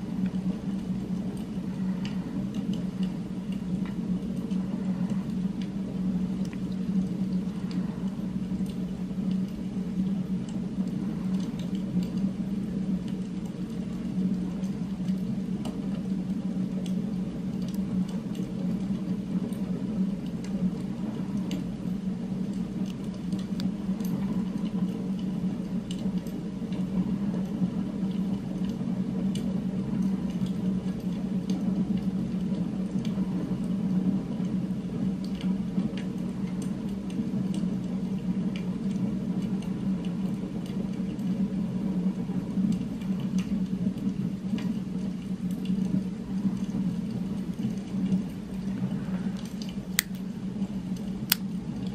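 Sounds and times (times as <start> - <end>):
low ambient hum: 0.0 - 51.9.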